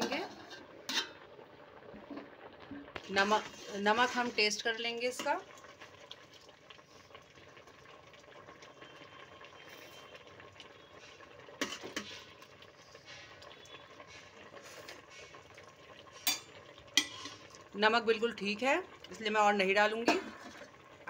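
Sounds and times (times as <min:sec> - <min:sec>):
pot boiling and bubbling: 0:00.0 - 0:21.0.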